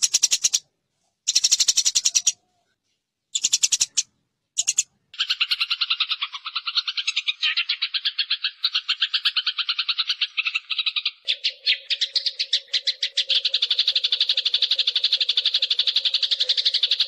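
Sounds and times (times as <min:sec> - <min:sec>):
sparrows chattering harshly: 0:00.0 - 0:00.7, 0:01.3 - 0:02.4, 0:03.3 - 0:17.0.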